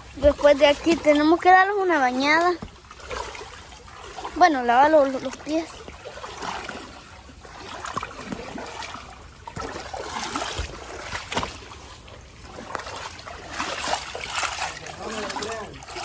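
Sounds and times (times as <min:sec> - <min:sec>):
floodwater splashing: 0:00.0 - 0:16.0.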